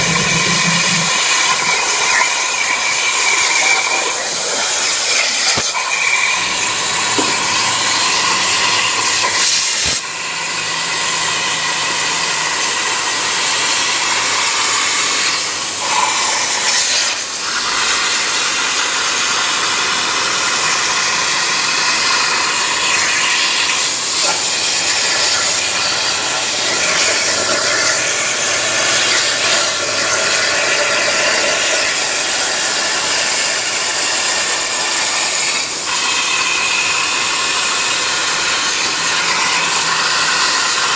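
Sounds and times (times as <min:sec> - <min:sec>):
plasma cutter hissing: 0:00.0 - 0:40.9.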